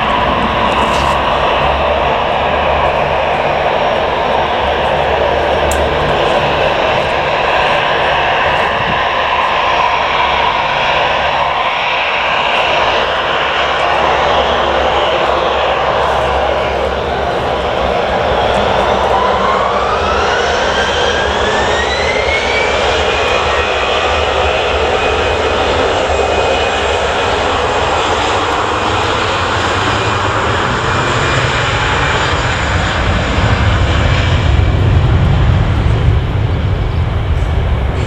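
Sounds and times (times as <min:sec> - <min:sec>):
deep jet engine rumble: 0:00.0 - 0:38.0
jet engine whine: 0:00.0 - 0:38.0.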